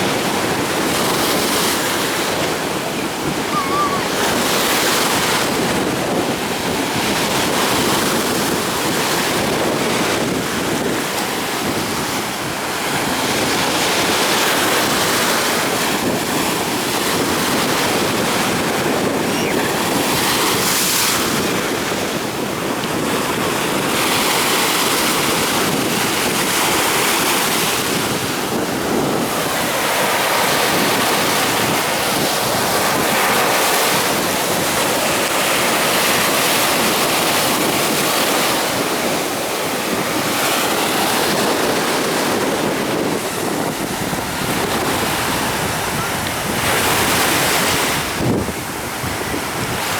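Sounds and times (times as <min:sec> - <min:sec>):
waves breaking: 0:00.0 - 0:49.9
wind buffeting microphone: 0:00.0 - 0:49.9.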